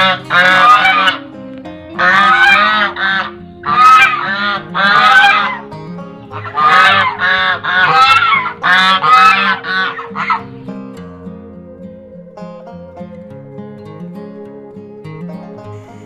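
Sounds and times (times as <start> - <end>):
waterfowl calling: 0.0 - 13.5
guitar music: 0.0 - 16.0.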